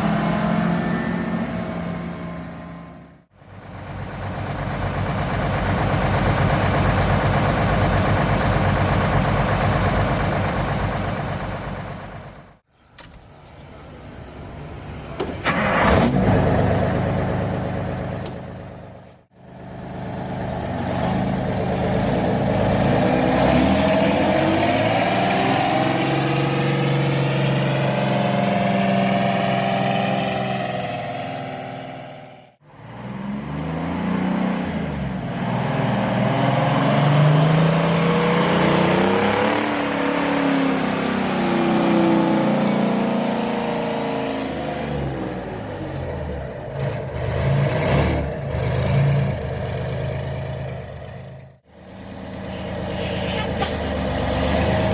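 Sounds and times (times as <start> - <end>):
truck engine revving: 0.0 - 13.6, 15.3 - 54.9.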